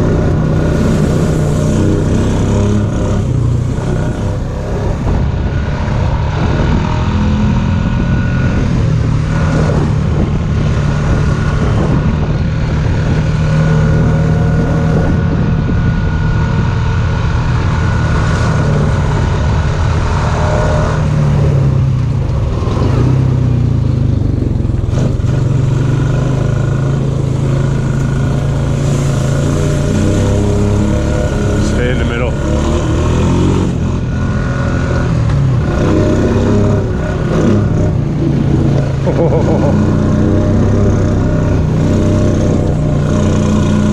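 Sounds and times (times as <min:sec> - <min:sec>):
off-road vehicle engine running: 0:00.0 - 0:43.9.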